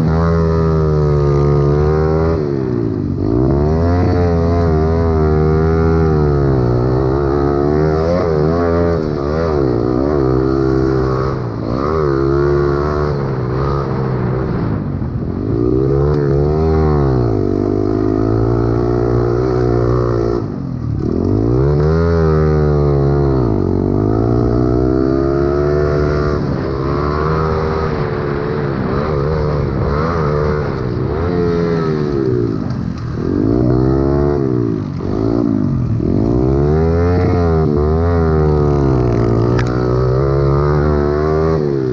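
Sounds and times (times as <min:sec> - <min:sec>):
small motorbike engine revving: 0:00.0 - 0:14.8, 0:15.5 - 0:41.9
other motorbikes running: 0:00.0 - 0:41.9.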